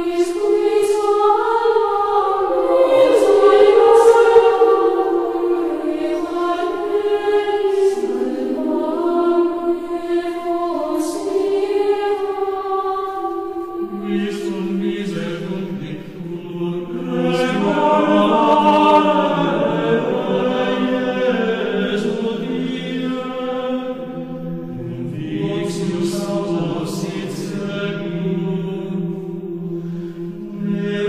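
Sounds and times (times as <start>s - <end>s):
slow vocal chant: 0.0s - 31.0s.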